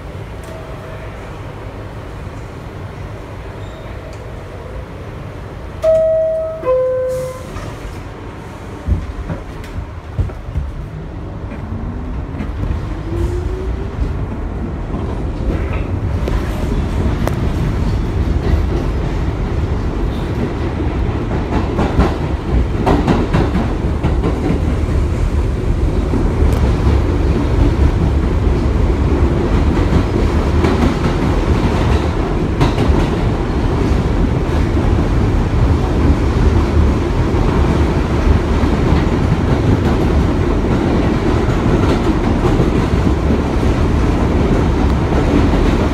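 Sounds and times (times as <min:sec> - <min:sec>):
subway motor whine: 0:00.0 - 0:45.9
train wheel and track rumble: 0:00.0 - 0:45.9.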